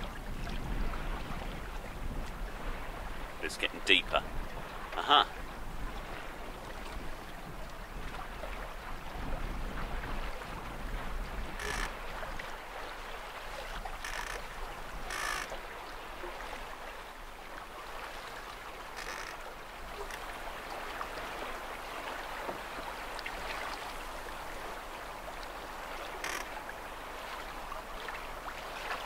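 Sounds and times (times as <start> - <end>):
water rushing along hull: 0.0 - 29.0
wind: 0.0 - 29.0.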